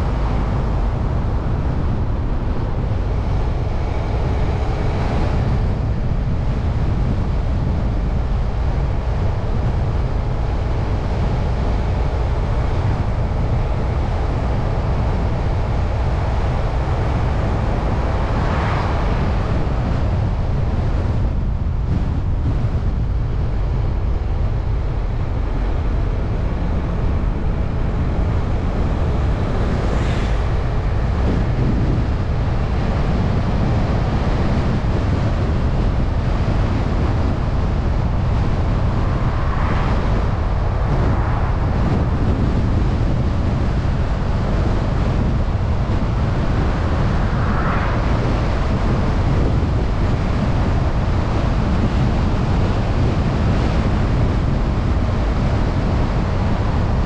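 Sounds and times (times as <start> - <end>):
car road and wind noise: 0.0 - 57.0.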